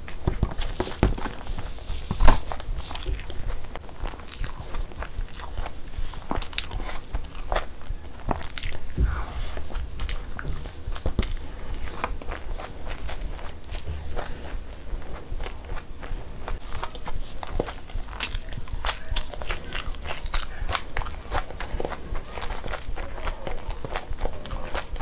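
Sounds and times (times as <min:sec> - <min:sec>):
wet chewing and smacking: 0:00.0 - 0:25.0.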